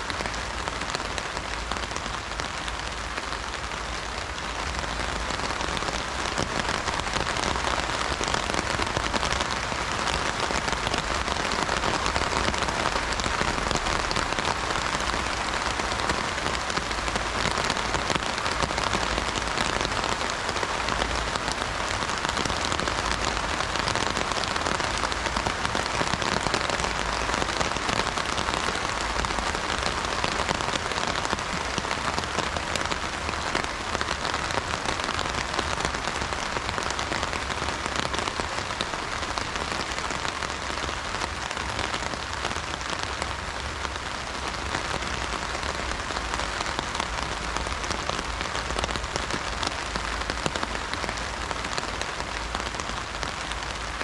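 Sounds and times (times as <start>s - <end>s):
heavy rain drumming on umbrella: 0.0s - 54.0s.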